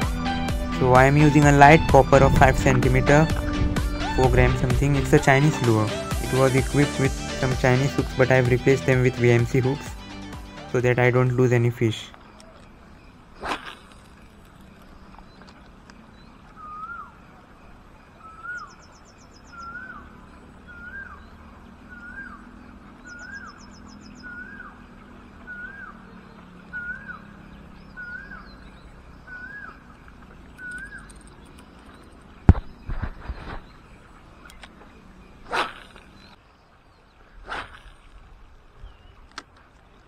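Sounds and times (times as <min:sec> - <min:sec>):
bird calling: 0:00.0 - 0:40.0.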